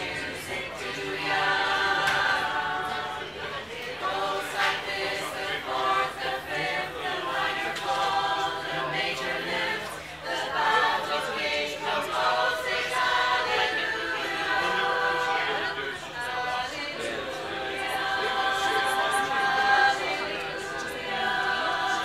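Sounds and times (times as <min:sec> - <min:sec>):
women's choir singing a cappella: 0:00.0 - 0:22.0.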